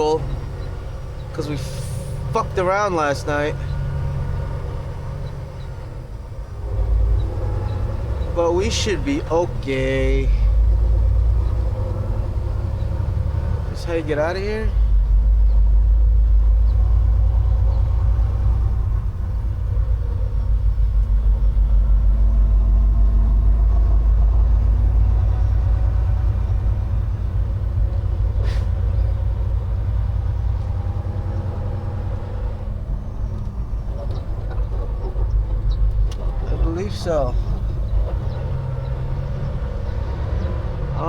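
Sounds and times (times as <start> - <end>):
road noise: 0.0 - 41.0
truck diesel engine rumble: 0.0 - 41.0.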